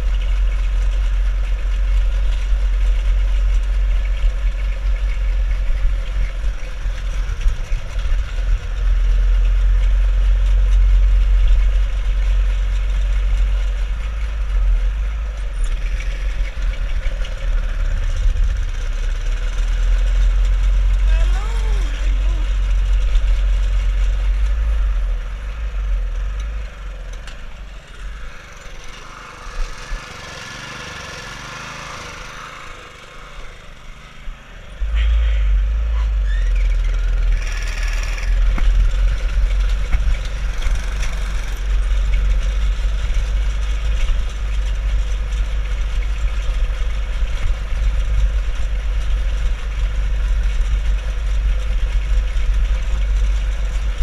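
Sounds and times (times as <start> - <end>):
go-kart engine rumbling: 0.0 - 54.0.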